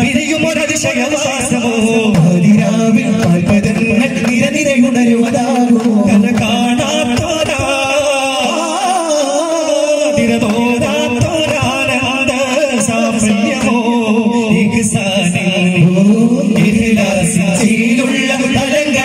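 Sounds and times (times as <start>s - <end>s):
frame drums beating: 0.0s - 19.0s.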